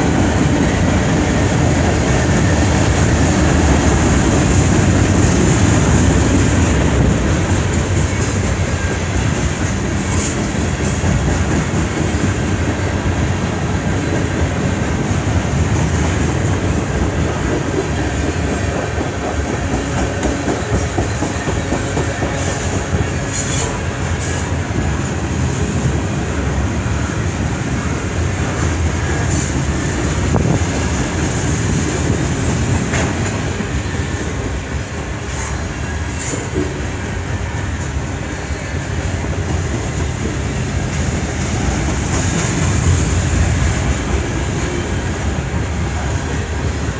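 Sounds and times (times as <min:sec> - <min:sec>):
high ringing from train wheels: 0:00.0 - 0:46.9
train wheels rumbling on rails: 0:00.0 - 0:46.9.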